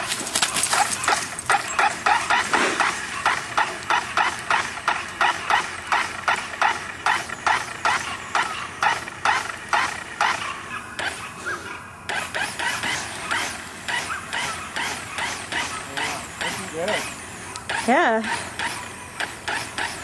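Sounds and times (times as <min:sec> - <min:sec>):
dog barking rapidly: 0:00.2 - 0:17.1.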